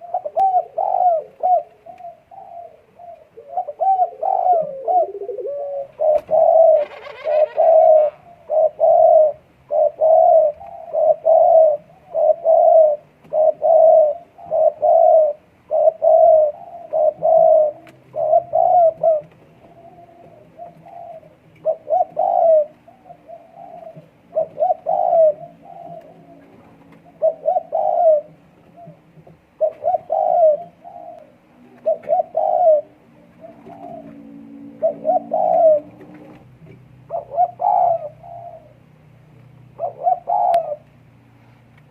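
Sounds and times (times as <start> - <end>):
dove cooing: 0.0 - 41.0.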